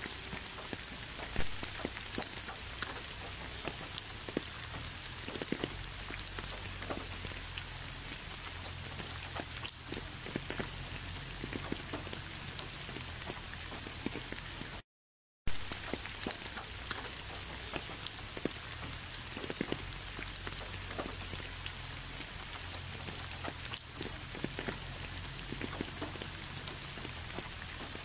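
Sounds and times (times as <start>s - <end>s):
rain falling: 0.0s - 14.8s, 15.5s - 28.0s.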